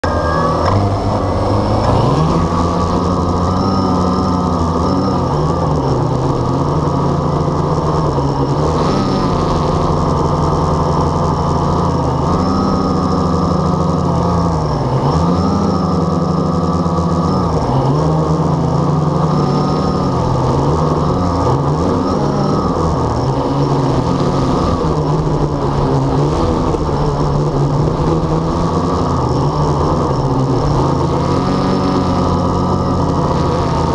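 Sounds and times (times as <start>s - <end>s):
quadcopter motors and propellers: 0.0s - 33.9s.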